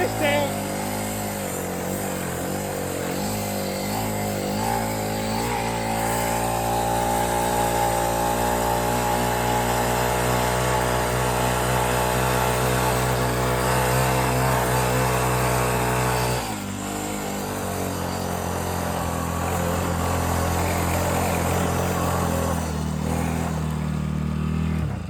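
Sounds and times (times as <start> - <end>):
vehicle engine under throttle: 0.0 - 25.0.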